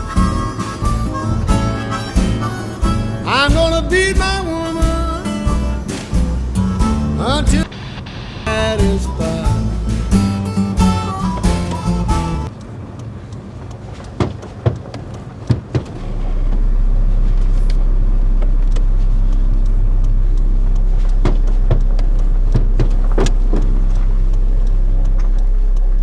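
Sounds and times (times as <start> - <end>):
truck engine starting and running: 0.0 - 13.5, 15.0 - 26.0.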